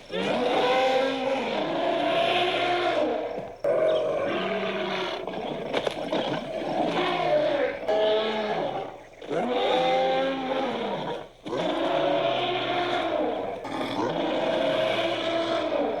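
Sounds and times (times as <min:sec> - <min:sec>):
dinosaur roar: 0:00.1 - 0:16.0.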